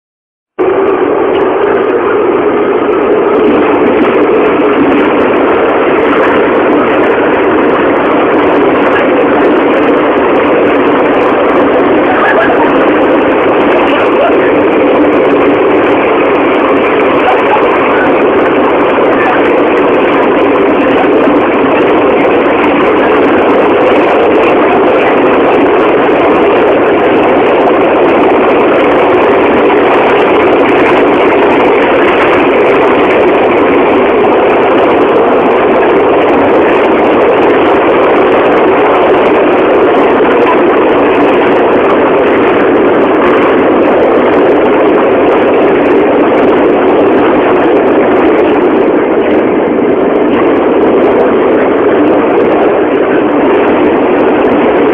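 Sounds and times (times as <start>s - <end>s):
subway train running: 0.6s - 54.9s.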